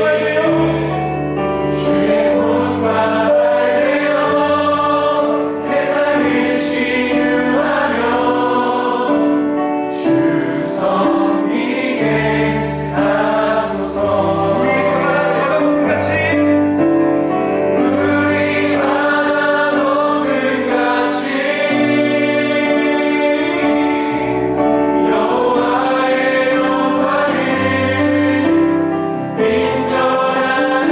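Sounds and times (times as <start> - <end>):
group of vocalists singing: 0.0 - 16.5, 17.6 - 30.9
worship band playing live: 0.0 - 30.9.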